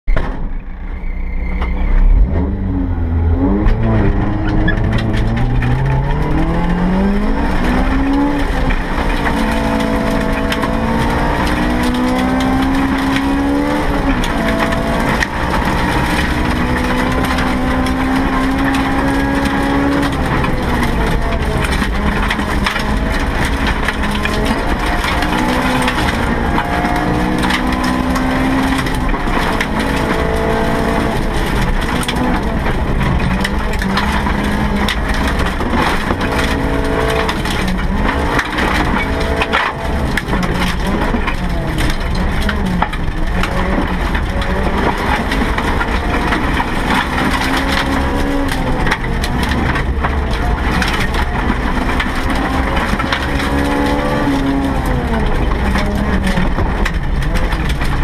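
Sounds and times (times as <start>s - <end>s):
car engine revving: 0.6s - 58.0s.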